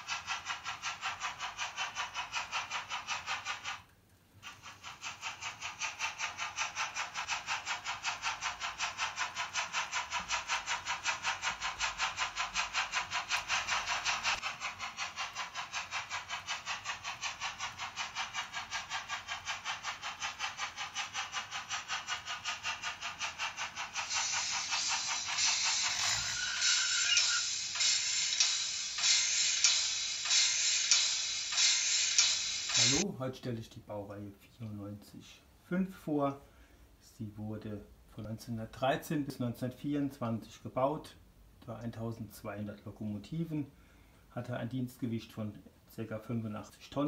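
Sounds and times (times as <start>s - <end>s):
model train steam chuff sound: 0.0s - 47.0s.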